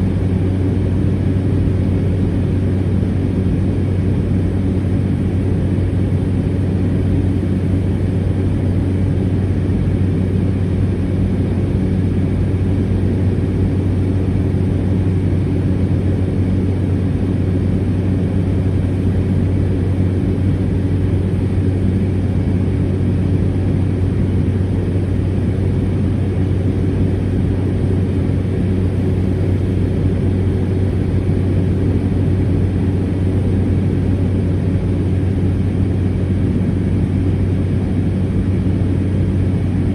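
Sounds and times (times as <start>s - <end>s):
turboprop engine droning: 0.0s - 39.9s.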